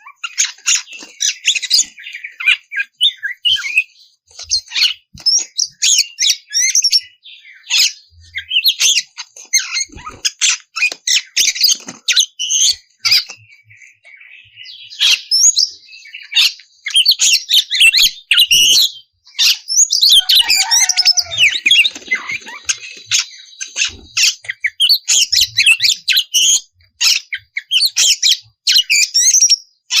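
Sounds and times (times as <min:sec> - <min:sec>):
bird singing whistles and trills: 0:00.0 - 0:30.0.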